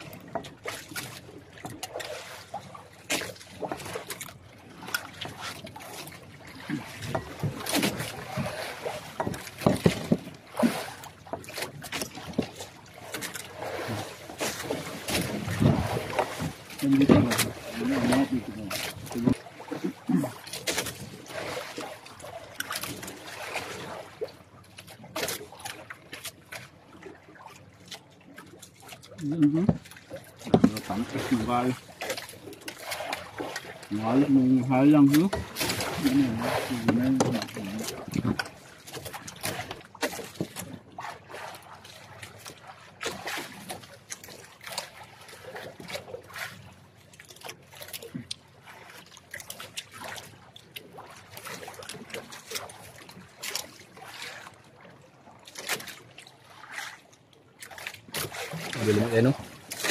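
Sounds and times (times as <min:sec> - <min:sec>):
water lapping against boat hull: 0:00.0 - 0:59.9.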